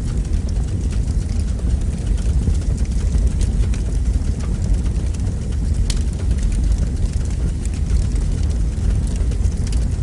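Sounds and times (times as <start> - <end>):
fire crackling: 0.0 - 10.0
fire roaring in fireplace: 0.0 - 10.0.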